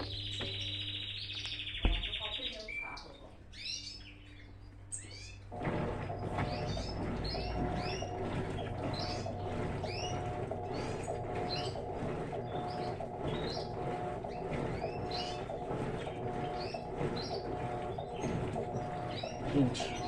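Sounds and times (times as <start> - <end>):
washing machine agitating: 0.0 - 2.6, 5.4 - 20.0.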